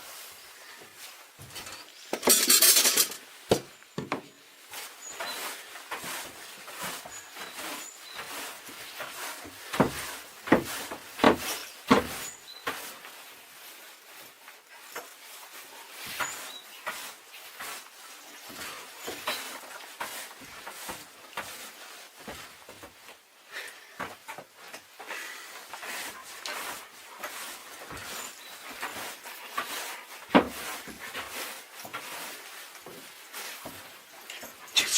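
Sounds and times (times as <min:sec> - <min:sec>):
small rubs and clinks: 0:00.1 - 0:23.2, 0:24.2 - 0:34.9.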